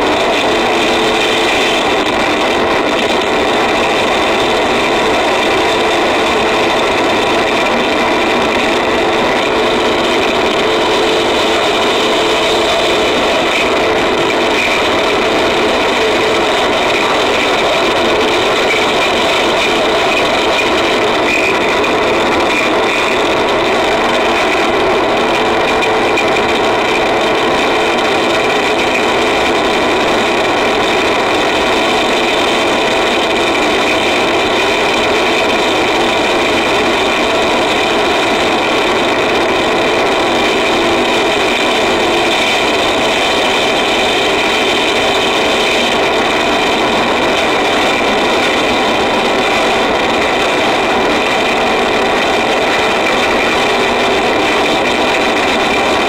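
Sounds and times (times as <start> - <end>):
distorted electronic noise: 0.0 - 56.0
steady droning tones: 0.0 - 56.0.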